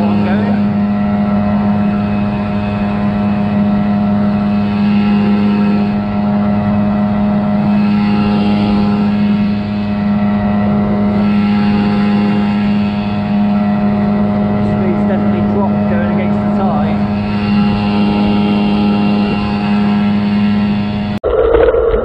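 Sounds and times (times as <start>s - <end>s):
outboard motor running: 0.0s - 21.3s.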